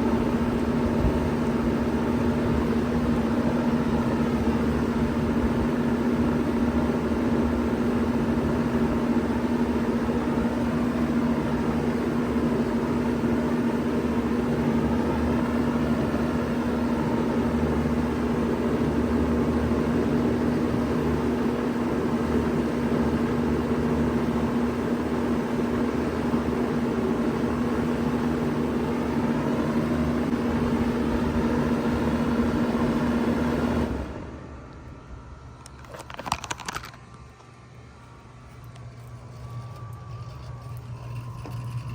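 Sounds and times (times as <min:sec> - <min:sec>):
compressor hum: 0:00.0 - 0:41.9
fan rushing: 0:00.0 - 0:41.9.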